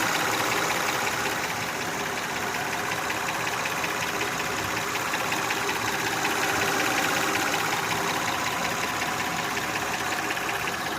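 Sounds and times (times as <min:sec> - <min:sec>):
engine running: 0:00.0 - 0:10.9
rapid engine ticking knock: 0:00.0 - 0:10.9.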